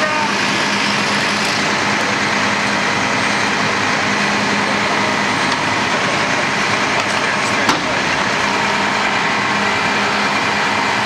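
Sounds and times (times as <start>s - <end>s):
diesel truck engines running: 0.0s - 11.0s.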